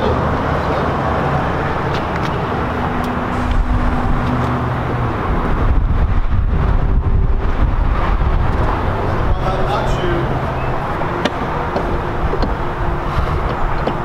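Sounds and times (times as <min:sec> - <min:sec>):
vehicle engine rumbling: 0:00.0 - 0:14.0
wind on microphone: 0:01.4 - 0:14.0.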